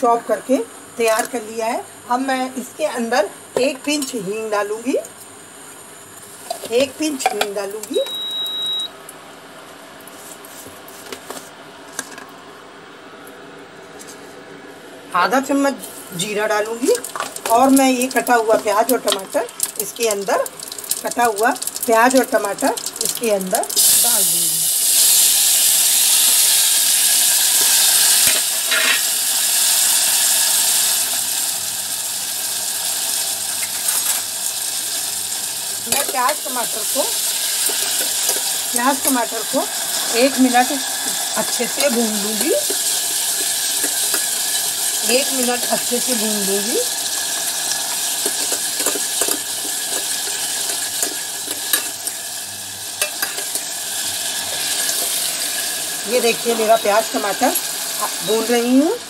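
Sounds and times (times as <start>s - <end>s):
onion and tomato sizzling in oil: 0.0s - 9.4s, 14.9s - 59.0s
vegetables frying in hot fat: 0.0s - 11.2s, 15.1s - 59.0s.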